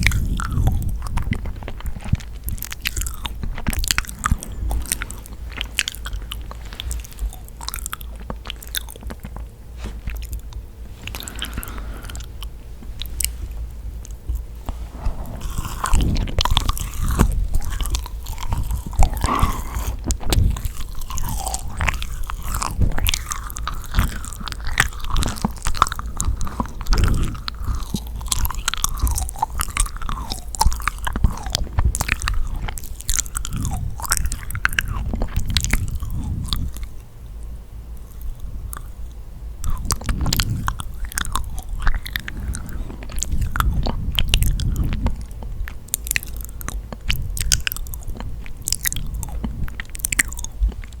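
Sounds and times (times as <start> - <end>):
sticky chewing mouth sounds: 0.0 - 37.1, 38.0 - 51.0.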